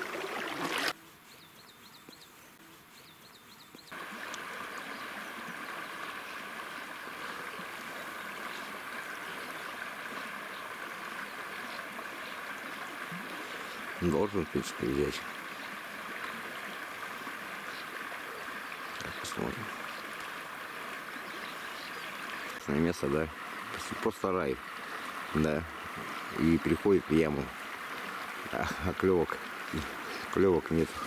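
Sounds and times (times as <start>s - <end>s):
river water rushing: 0.0s - 1.0s, 3.9s - 31.0s.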